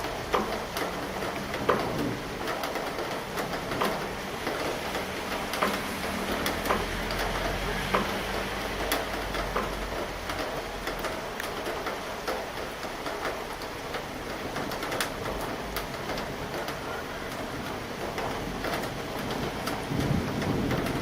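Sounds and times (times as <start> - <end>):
drops ticking on surfaces: 0.0 - 21.0
rain falling: 0.0 - 21.0.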